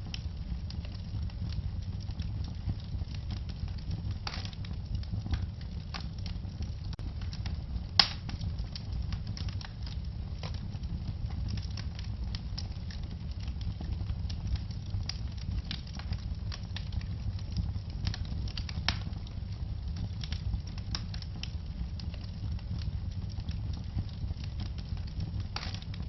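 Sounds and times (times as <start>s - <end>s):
low rumble of flame: 0.0s - 26.0s
wood logs crackling and popping: 0.0s - 26.0s.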